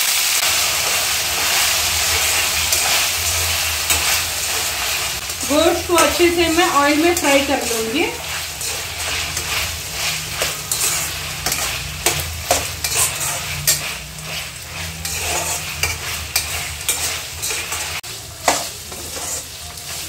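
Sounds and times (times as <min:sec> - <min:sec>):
meat sizzling in oil: 0:00.0 - 0:20.0
spatula scraping pan: 0:00.4 - 0:20.0.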